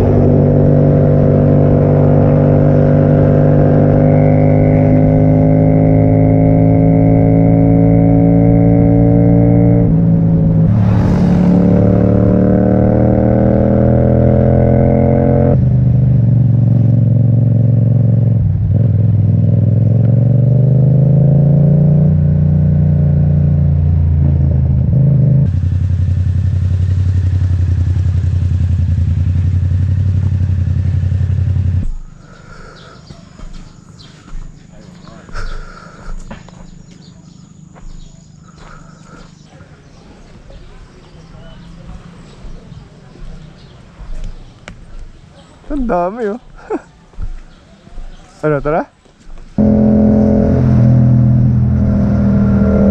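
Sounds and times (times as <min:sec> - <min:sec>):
motorcycle engine revving: 0:00.0 - 0:39.2, 0:49.6 - 0:52.9.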